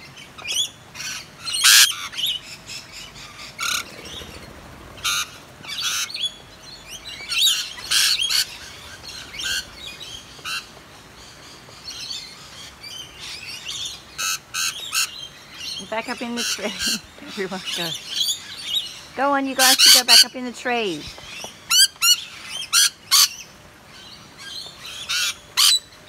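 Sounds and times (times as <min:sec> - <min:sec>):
lorikeets screeching: 0:00.0 - 0:26.0
rain hiss: 0:00.1 - 0:26.0.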